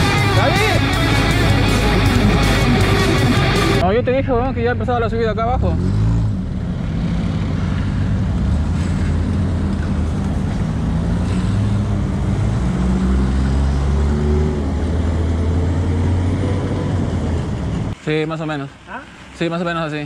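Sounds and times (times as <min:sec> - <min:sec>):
vehicle engine running: 0:00.0 - 0:16.2.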